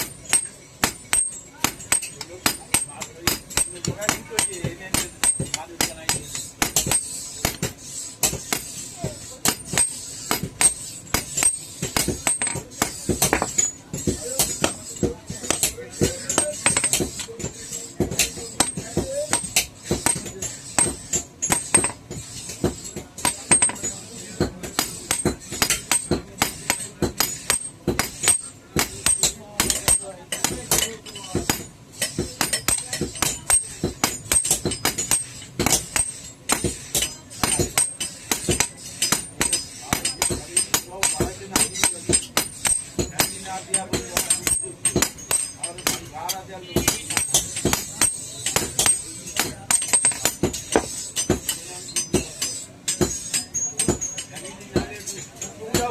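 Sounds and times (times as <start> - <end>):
hammer striking iron on anvil: 0.0 - 55.9.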